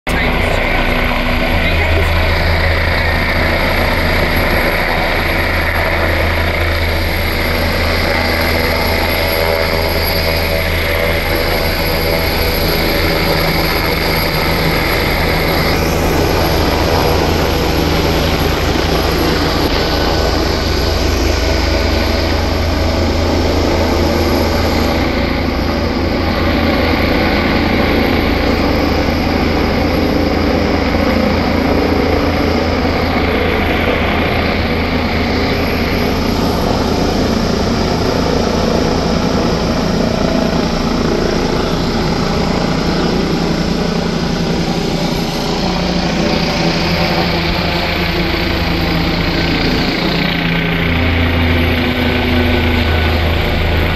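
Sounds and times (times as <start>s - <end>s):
helicopter taking off: 0.0s - 53.9s.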